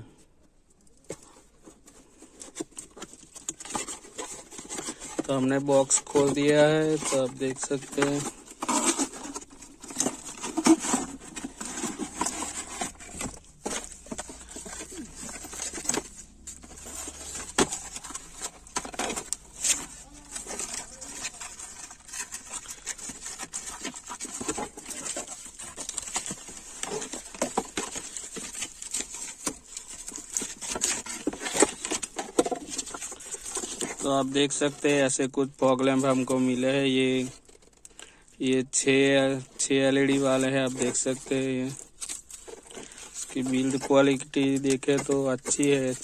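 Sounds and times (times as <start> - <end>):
cardboard and plastic rustling: 0.0 - 46.0.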